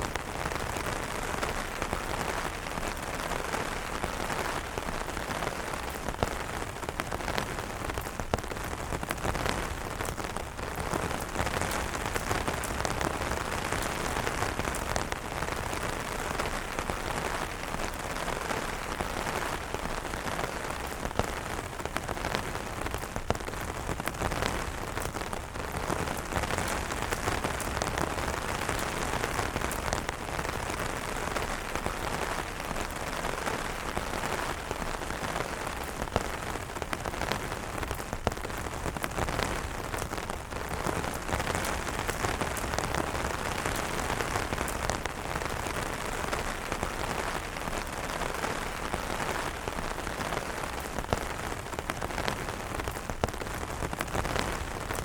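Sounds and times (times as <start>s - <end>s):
rain falling on umbrellas: 0.0s - 55.0s.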